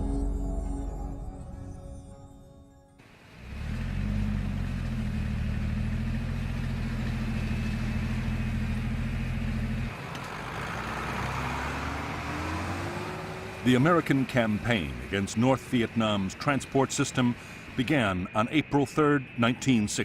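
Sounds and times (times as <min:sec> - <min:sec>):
engine droning: 0:03.0 - 0:20.0.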